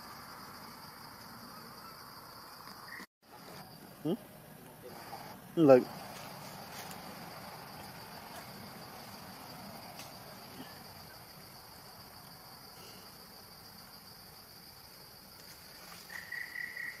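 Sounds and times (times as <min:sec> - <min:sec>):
insects high-pitched drone: 0:00.0 - 0:17.0
lower insect tone: 0:00.0 - 0:17.0.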